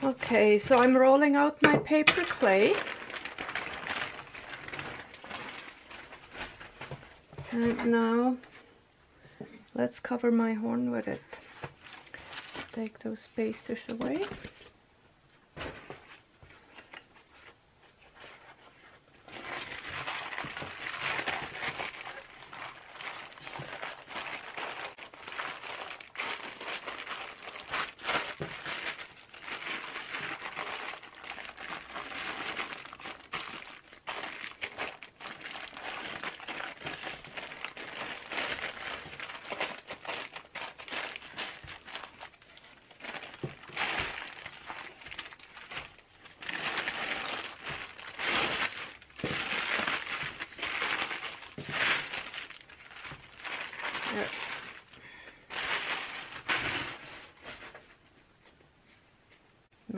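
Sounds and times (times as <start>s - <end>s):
plastic sheeting crinkling: 0.0s - 8.6s, 11.3s - 14.7s, 15.4s - 58.6s.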